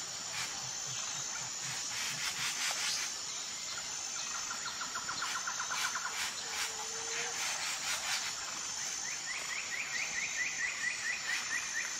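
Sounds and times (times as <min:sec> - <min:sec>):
high insect drone: 0:00.0 - 0:11.9.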